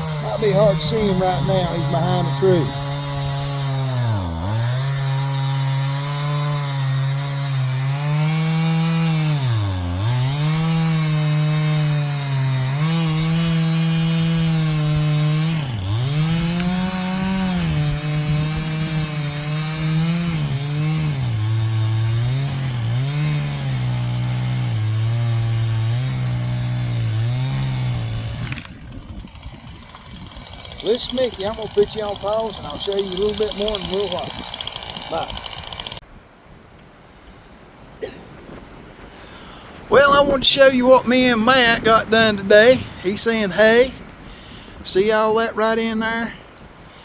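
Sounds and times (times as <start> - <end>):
chainsaw cutting wood: 0.0 - 36.1, 39.9 - 47.0.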